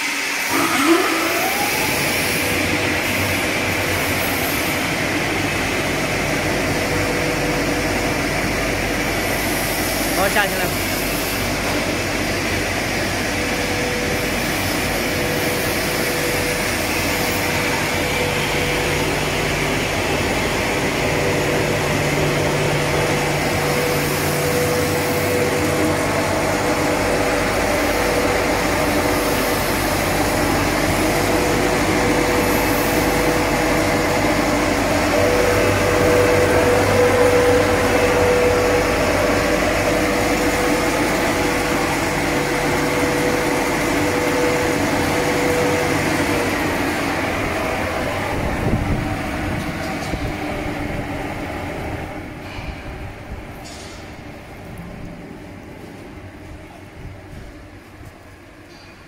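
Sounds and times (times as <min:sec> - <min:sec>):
air blower whine and hum: 0:00.0 - 0:59.0.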